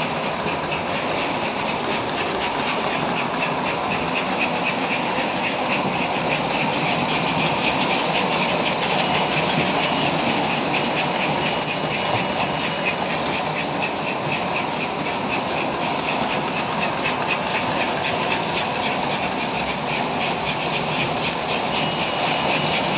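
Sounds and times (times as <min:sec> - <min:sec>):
toy train motor and wheels: 0:00.0 - 0:22.9.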